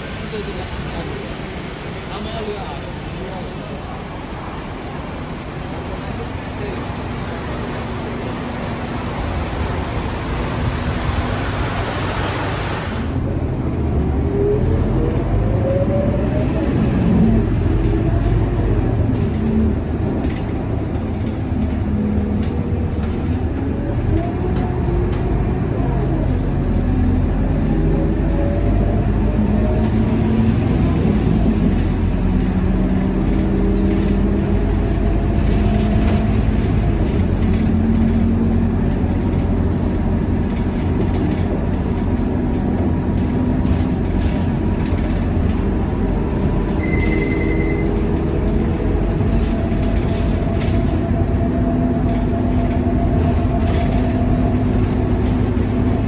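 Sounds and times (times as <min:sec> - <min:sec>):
bus diesel engine rumbling: 0:00.0 - 0:56.0.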